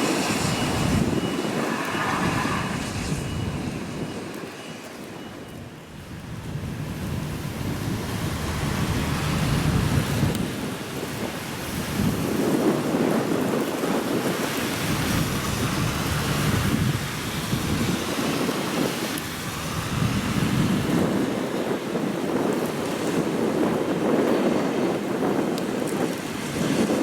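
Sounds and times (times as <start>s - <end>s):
gusting wind buffeting microphone: 0.0s - 27.0s.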